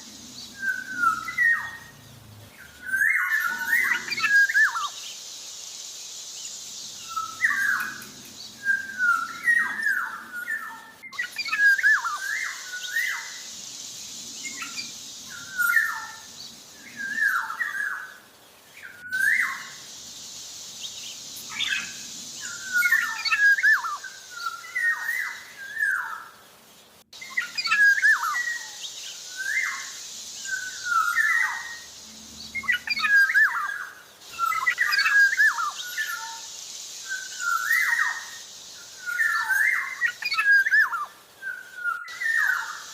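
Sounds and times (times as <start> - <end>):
steady high hiss: 0.0 - 42.9
bird singing fluty whistles: 0.4 - 1.9, 2.6 - 5.0, 7.0 - 13.5, 14.4 - 18.2, 18.8 - 20.1, 20.8 - 26.3, 27.2 - 42.9.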